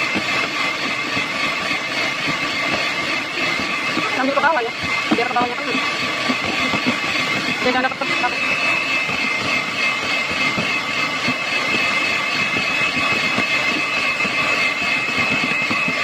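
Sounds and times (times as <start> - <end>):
electric hand mixer whirring: 0.0 - 16.0.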